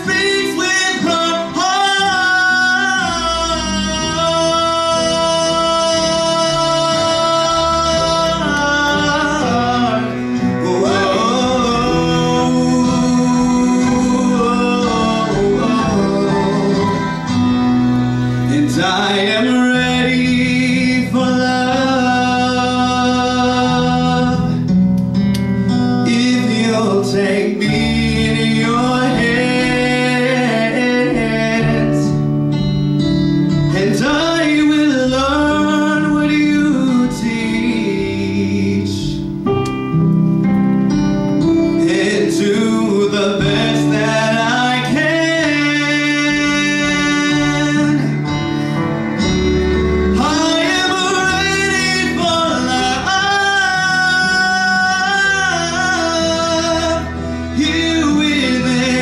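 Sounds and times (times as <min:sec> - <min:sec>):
man singing into a microphone: 0:00.0 - 0:17.6, 0:18.3 - 0:24.8, 0:26.0 - 0:32.4, 0:33.7 - 0:39.4, 0:41.6 - 0:48.6, 0:50.0 - 0:59.0
instrumental accompaniment: 0:00.0 - 0:59.0.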